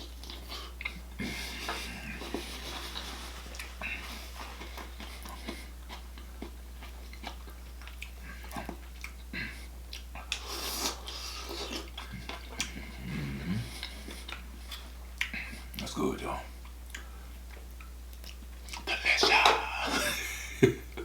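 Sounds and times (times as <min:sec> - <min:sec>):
person chewing: 0:00.0 - 0:15.8, 0:16.5 - 0:21.0.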